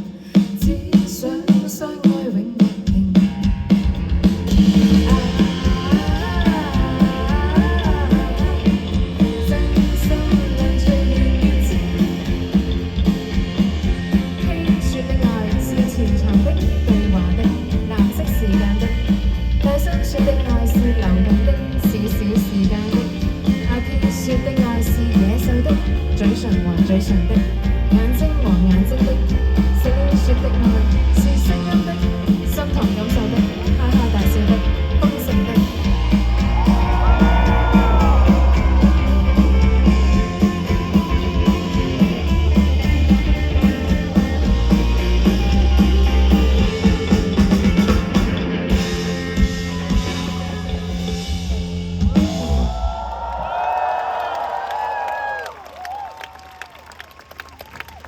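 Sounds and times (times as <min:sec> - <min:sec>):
live rock band playing: 0:00.0 - 0:53.1
steady drum beat: 0:00.0 - 0:53.1
bass line: 0:02.9 - 0:56.0
strummed guitars: 0:03.0 - 0:52.8.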